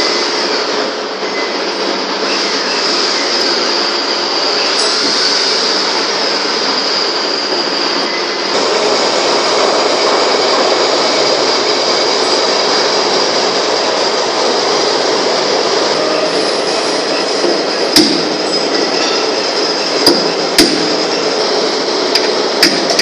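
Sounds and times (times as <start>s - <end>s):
high whine: 0.0s - 23.0s
workshop machinery running: 0.0s - 23.0s.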